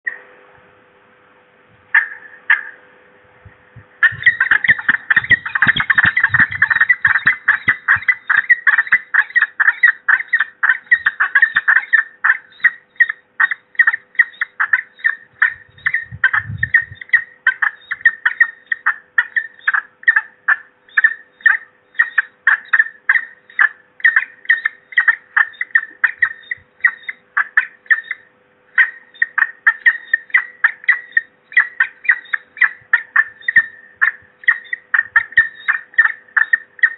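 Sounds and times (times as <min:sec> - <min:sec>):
faint steady hum: 0:00.0 - 0:36.9
falcons calling: 0:01.9 - 0:02.8, 0:04.0 - 0:36.9.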